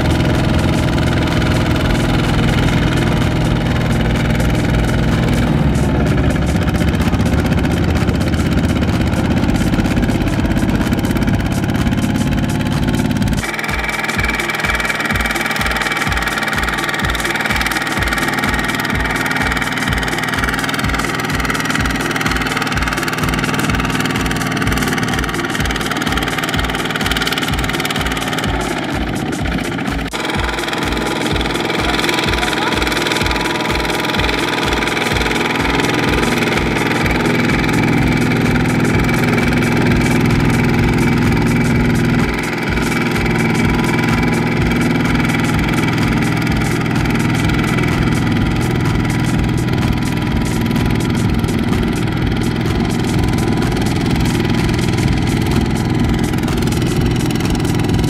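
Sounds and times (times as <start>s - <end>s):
diesel tiller engine throbbing: 0.0s - 58.0s.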